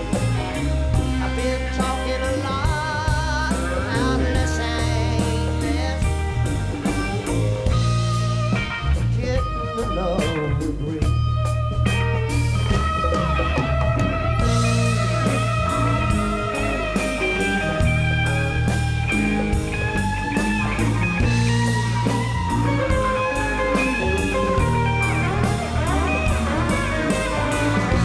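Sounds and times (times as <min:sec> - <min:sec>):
bass and drums: 0:00.0 - 0:28.0
electric guitar lead: 0:00.0 - 0:28.0
steady cymbal beat: 0:00.0 - 0:28.0.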